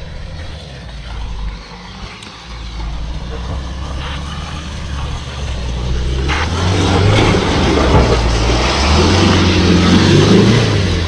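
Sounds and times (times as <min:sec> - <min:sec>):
off-road vehicle engine under load: 0:00.0 - 0:11.0
tyres in mud: 0:00.0 - 0:11.0.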